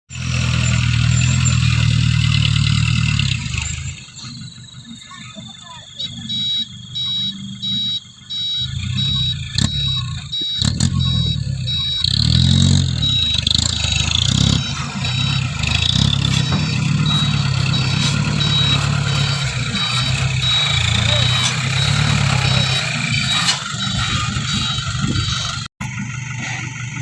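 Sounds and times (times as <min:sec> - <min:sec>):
diesel truck engine revving: 0:00.1 - 0:27.0
rapid high-pitched beeping: 0:00.6 - 0:25.7.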